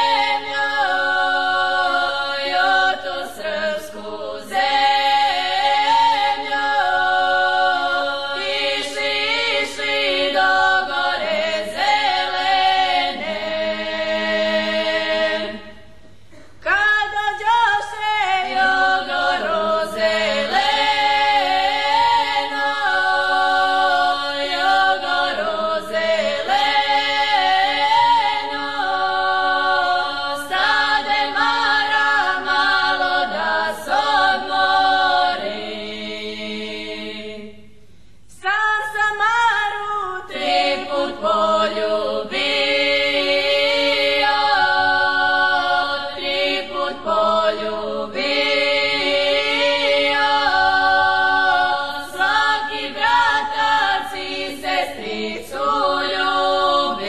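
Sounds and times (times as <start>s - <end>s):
women singing a melody: 0.0s - 57.0s.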